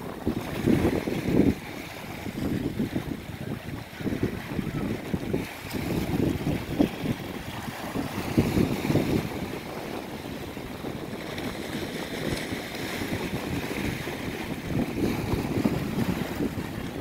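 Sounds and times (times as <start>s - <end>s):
low sea waves: 0.0s - 17.0s
wind buffeting microphone: 0.0s - 17.0s.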